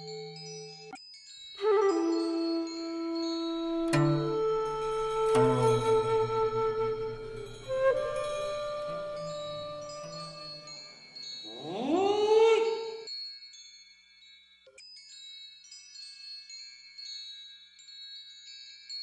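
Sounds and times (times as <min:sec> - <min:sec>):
wind chimes tinkling: 0:00.0 - 0:19.0.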